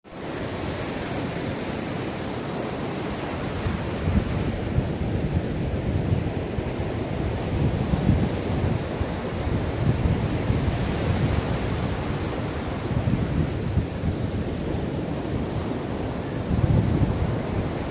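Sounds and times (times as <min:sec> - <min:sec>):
ocean surf washing onto beach: 0:00.1 - 0:17.9
wind buffeting microphone: 0:00.1 - 0:17.9.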